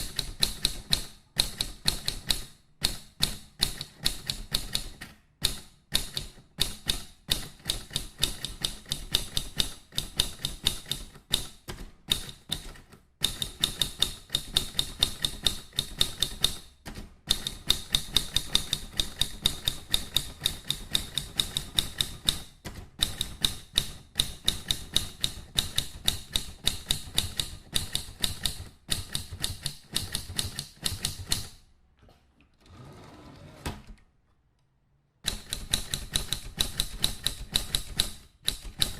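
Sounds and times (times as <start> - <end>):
rapid mechanical clicking: 0.0 - 31.6, 35.2 - 38.9.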